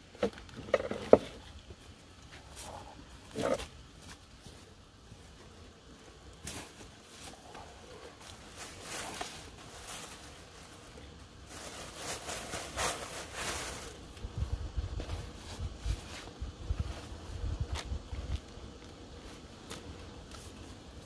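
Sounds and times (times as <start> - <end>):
rustling and handling noises: 0.0 - 21.0.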